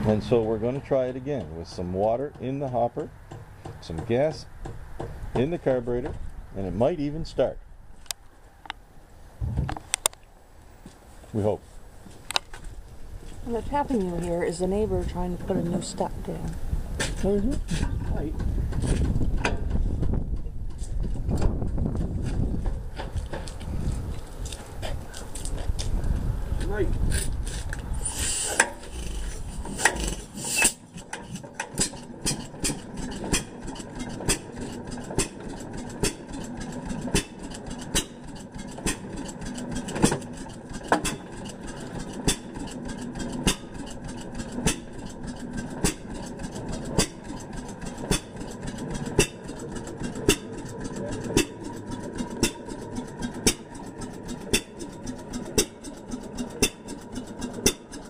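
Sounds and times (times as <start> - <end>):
hit-and-miss engine running: 0.0 - 58.0.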